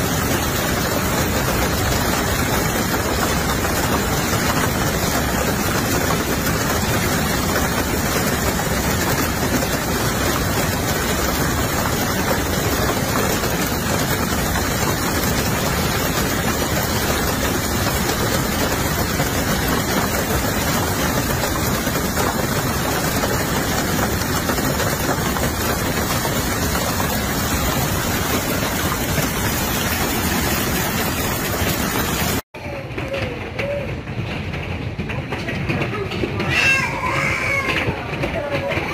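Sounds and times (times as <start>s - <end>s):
heavy hail and rain falling: 0.0s - 38.9s.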